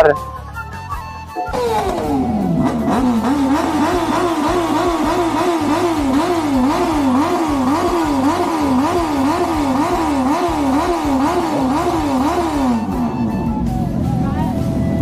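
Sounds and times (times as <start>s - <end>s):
motorcycle engine revving: 1.3s - 15.0s.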